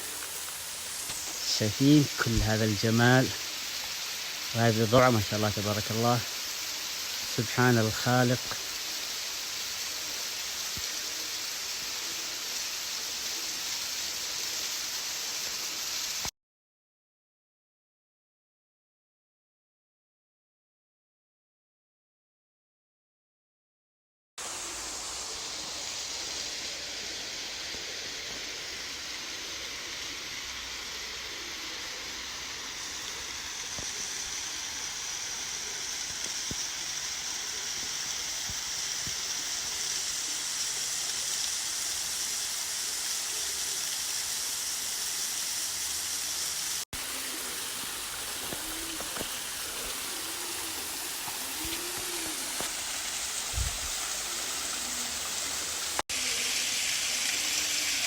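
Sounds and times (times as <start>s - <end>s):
waterfall rushing: 0.0s - 16.3s, 24.4s - 58.0s.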